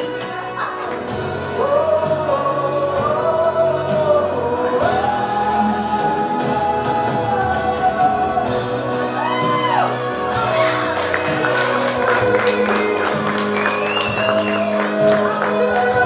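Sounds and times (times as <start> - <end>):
music: 0.0 - 16.0
person singing sliding long notes: 0.0 - 16.0.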